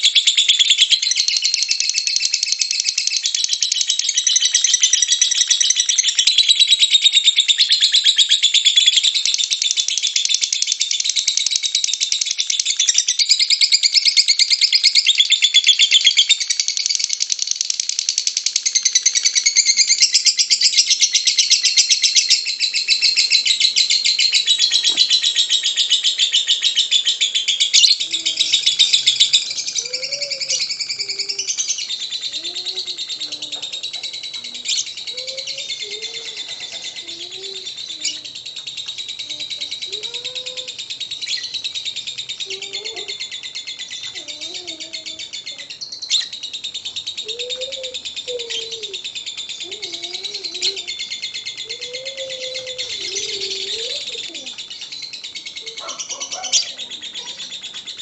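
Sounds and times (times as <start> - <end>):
lovebird chattering trill: 0.0 - 58.0
lower wavering bird sounds: 0.0 - 58.0.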